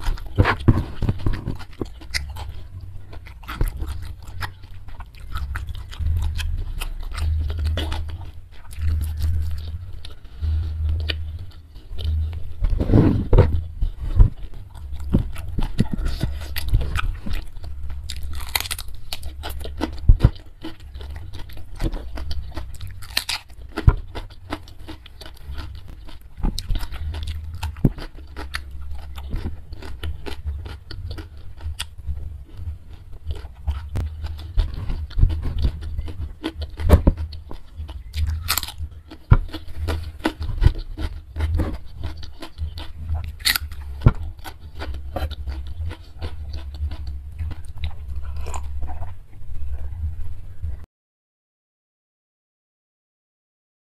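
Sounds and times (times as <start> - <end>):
crunching and chewing cucumber: 0.0 - 50.8
steady low hum: 0.0 - 50.9.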